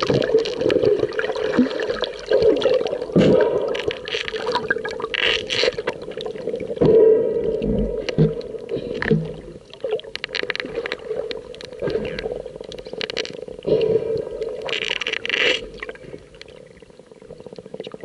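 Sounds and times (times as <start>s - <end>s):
bubbling and gurgles: 0.0s - 18.0s.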